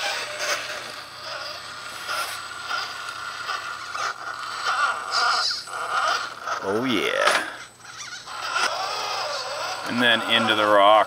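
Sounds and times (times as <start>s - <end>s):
electric motor whining: 0.0s - 11.0s
tyres and chassis scraping: 0.0s - 11.0s.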